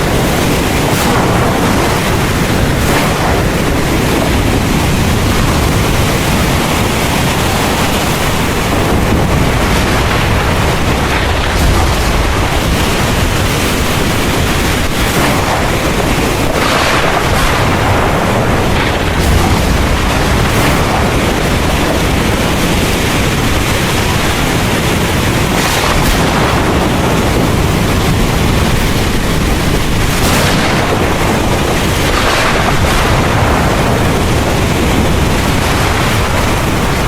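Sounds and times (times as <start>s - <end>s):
deep low rumble: 0.0s - 37.0s
heavy rain pouring: 0.0s - 37.0s.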